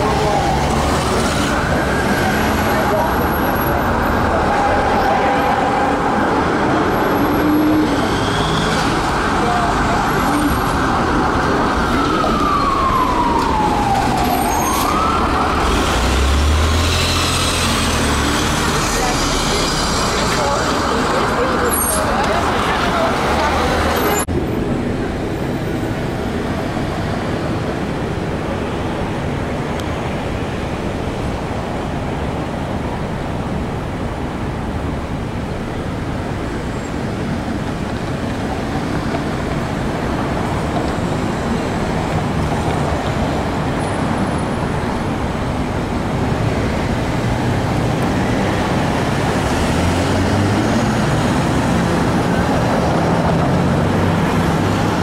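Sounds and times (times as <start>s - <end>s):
road traffic noise: 0.0s - 55.0s
streetcar hum: 0.0s - 55.0s.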